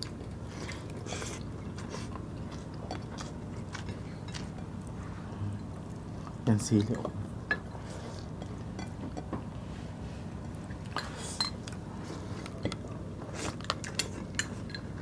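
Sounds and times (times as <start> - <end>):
chewing and mouth sounds: 0.0 - 9.3, 10.4 - 15.0
steady low hum: 0.0 - 15.0.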